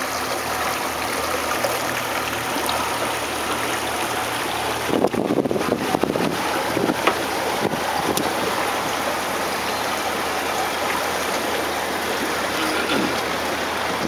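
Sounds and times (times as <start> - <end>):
water streaming past boat: 0.0 - 14.0.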